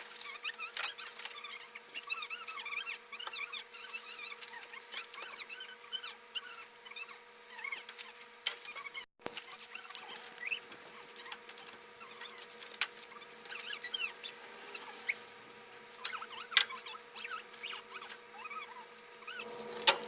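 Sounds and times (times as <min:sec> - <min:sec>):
high chirps and squeaks: 0:00.2 - 0:19.8.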